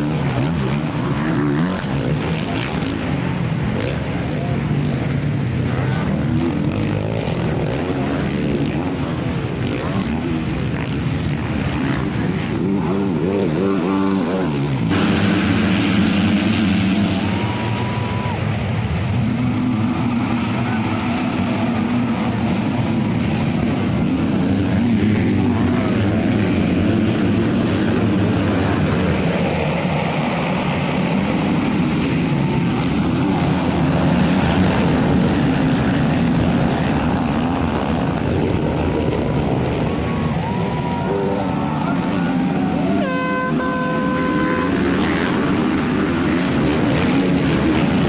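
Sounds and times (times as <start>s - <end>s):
crowd voices: 0.0s - 48.0s
dirt bike engines droning: 0.0s - 48.0s.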